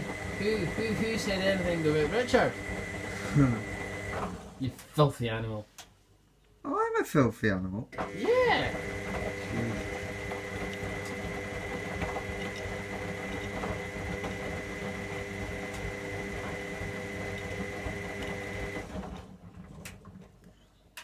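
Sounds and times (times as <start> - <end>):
washing machine running: 0.0 - 4.7, 8.0 - 20.3.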